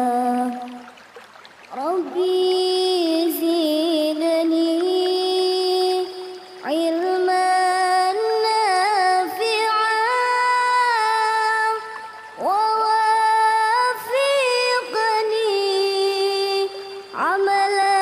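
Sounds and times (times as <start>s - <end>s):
high solo voice singing: 0.0s - 0.9s, 1.7s - 18.0s.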